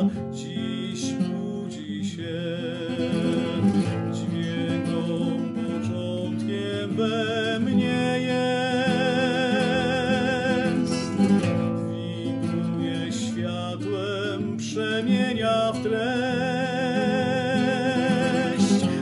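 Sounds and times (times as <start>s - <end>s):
man singing with wavering notes: 0.0s - 19.0s
strummed classical guitar: 0.0s - 19.0s.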